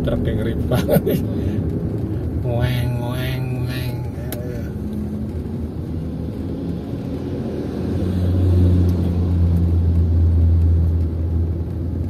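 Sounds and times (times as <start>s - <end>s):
vehicle engine and road hum: 0.0s - 12.0s.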